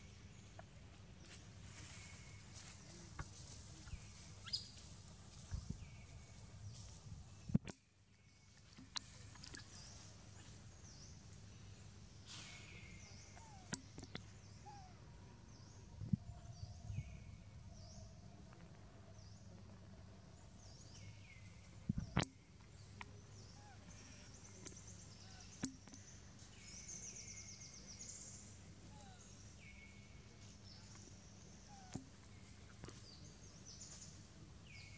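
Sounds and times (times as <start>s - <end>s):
bird chirping: 0.0s - 7.6s, 12.4s - 19.6s, 20.6s - 34.9s
low steady hum: 0.0s - 34.9s.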